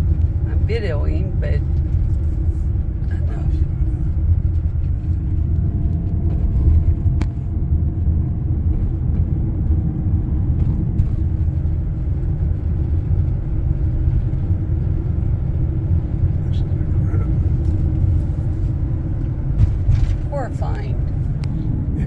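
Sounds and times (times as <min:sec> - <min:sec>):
vehicle driving low rumble: 0:00.0 - 0:22.0.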